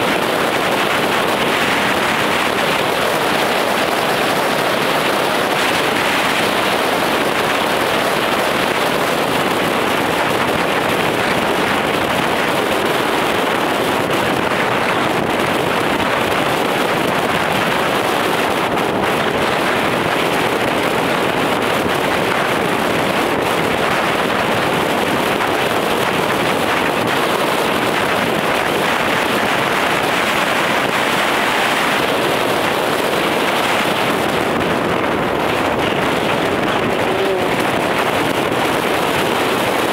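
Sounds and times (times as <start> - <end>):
car wind and road noise: 0.0 - 39.9.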